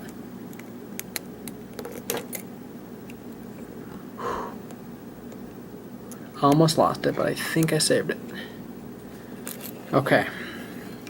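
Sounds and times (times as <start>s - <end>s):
soft hum: 0.0s - 11.0s.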